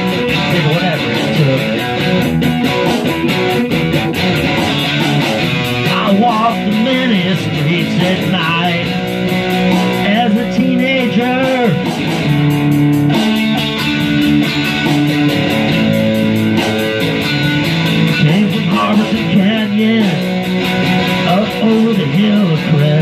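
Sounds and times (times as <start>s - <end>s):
electric guitar rock groove: 0.0s - 23.0s.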